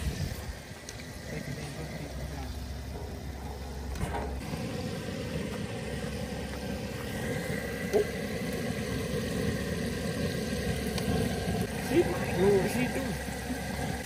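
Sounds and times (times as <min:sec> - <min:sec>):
propane burner roaring: 0:00.0 - 0:14.0.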